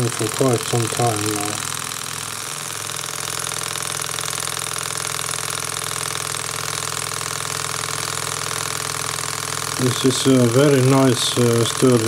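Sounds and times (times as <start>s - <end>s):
small engine mechanical ticking: 0.0s - 12.0s.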